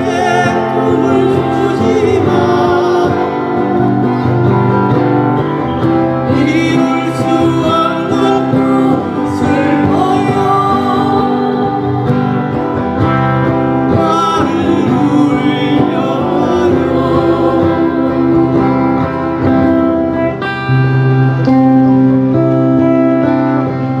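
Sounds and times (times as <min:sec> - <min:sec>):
sustained instrument tones: 0:00.0 - 0:22.5
acoustic guitar ballad: 0:00.0 - 0:24.0.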